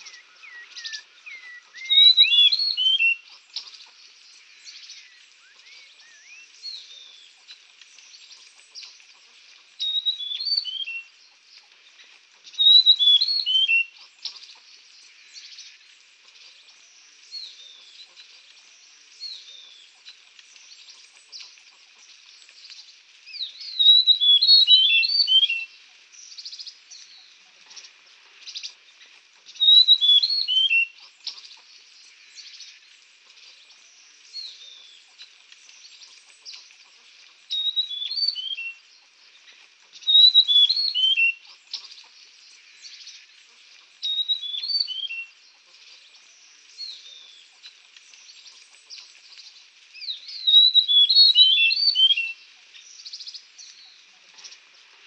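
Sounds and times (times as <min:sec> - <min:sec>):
faint bird chirps: 0:00.0 - 0:55.0
songbird singing: 0:00.0 - 0:55.0.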